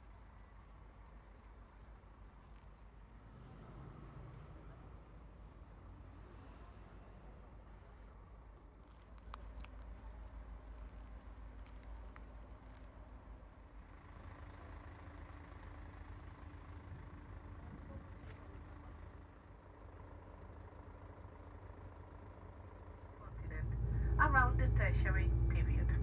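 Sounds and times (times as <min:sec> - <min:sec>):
motor vehicle engine rumble: 0:00.0 - 0:26.0.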